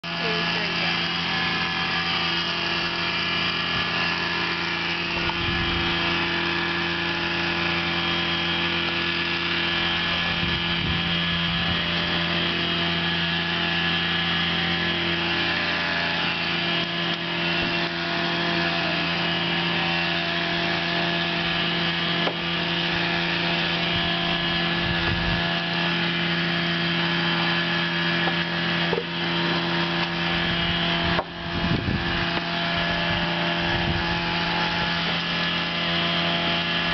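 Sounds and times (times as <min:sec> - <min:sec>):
steady motor drone: 0:00.0 - 0:36.9.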